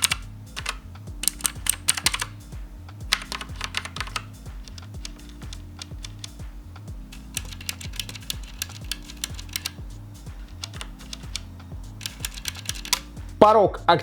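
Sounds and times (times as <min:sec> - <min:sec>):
mechanical keyboard typing: 0:00.0 - 0:02.4, 0:03.1 - 0:06.4, 0:07.2 - 0:13.2
quiet background music: 0:00.0 - 0:14.0.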